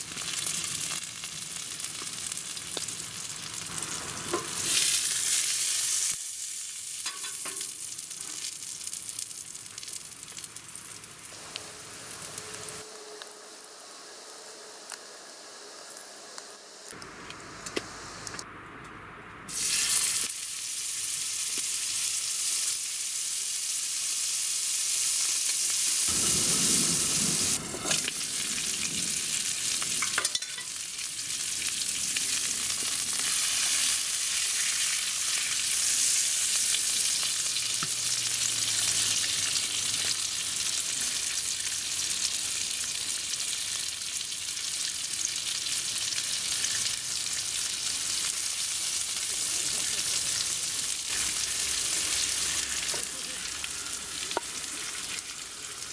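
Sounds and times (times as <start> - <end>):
meat sizzling in a skillet: 0.0 - 17.0, 19.5 - 55.9.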